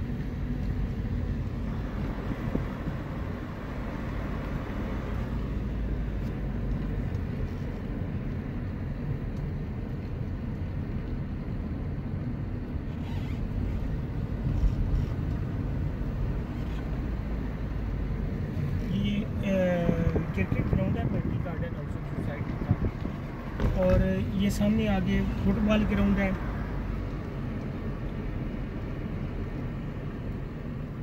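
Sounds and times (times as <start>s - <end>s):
car interior road rumble: 0.0s - 31.0s.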